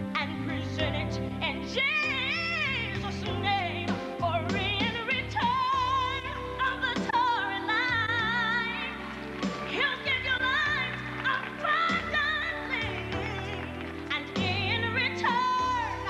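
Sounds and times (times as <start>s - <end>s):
instrumental backing: 0.0s - 16.0s
woman singing with vibrato: 0.1s - 16.0s.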